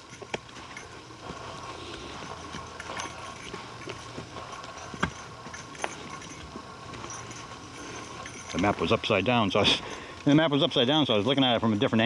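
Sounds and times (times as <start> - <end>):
footsteps on forest trail: 0.0 - 12.0.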